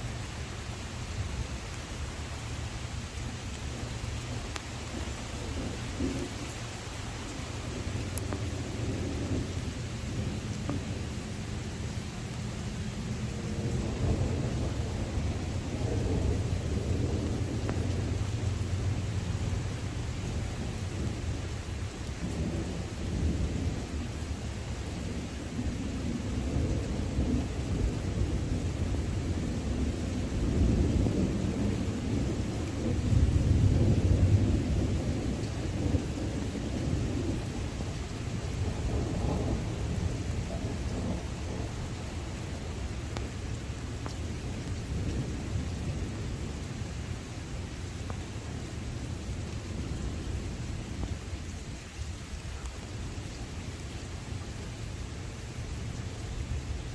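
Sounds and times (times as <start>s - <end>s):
rain hissing: 0.0s - 56.9s
thunder rumbling: 3.2s - 52.8s.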